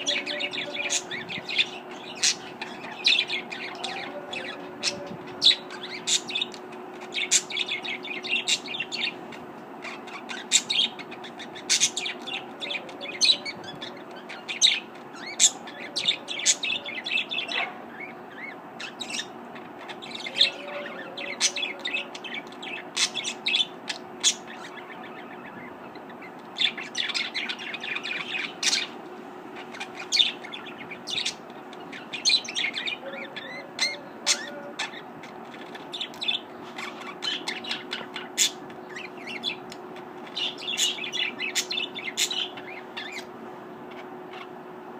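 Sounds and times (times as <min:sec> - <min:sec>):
budgerigars chirping and warbling: 0:00.0 - 0:44.6
faint steady hum: 0:00.0 - 0:44.9.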